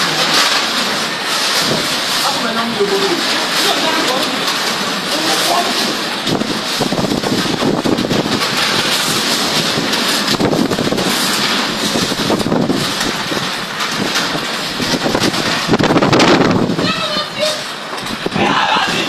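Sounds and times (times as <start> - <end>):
heavy rain pouring: 0.0 - 19.0
wind gusting across microphone: 0.0 - 19.0.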